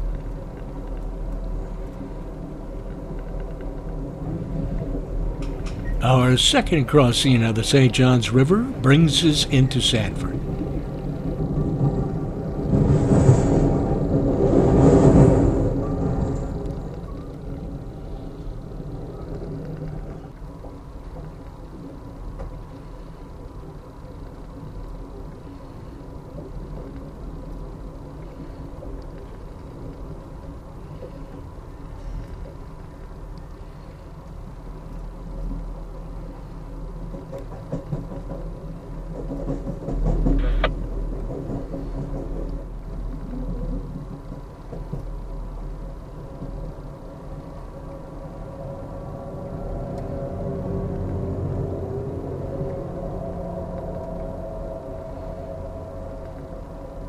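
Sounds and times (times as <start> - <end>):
train rumbling from inside: 0.0 - 57.0.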